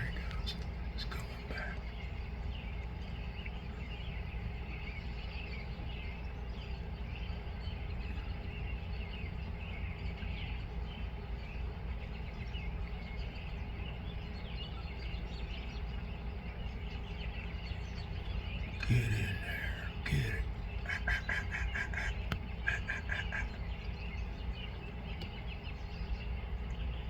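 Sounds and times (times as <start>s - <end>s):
low outdoor rumble: 0.0s - 27.0s
small birds chirping: 0.0s - 27.0s.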